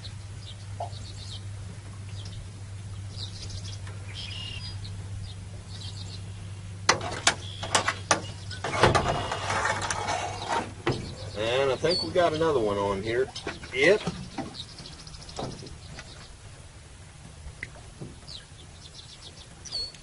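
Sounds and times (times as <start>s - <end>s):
birds chirping faintly: 0.0s - 20.0s
fishing line hauled along boat: 0.0s - 20.0s
steady low hum: 0.0s - 20.0s.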